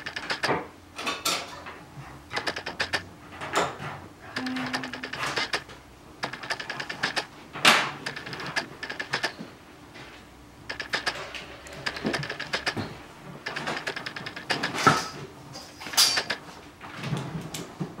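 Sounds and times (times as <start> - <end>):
tools clicking and knocking on workbench: 0.0 - 9.4, 10.7 - 16.4.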